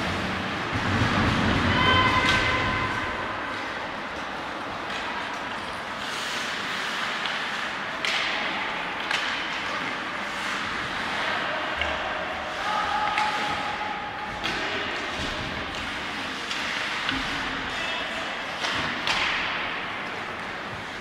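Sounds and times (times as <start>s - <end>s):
sticks and puck clacking: 0.0s - 21.0s.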